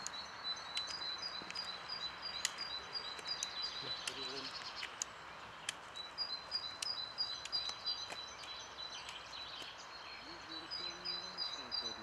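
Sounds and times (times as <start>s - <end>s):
sharp clicks: 0.0s - 9.8s
songbird singing high notes: 0.0s - 12.0s
steady outdoor hiss: 0.0s - 12.0s.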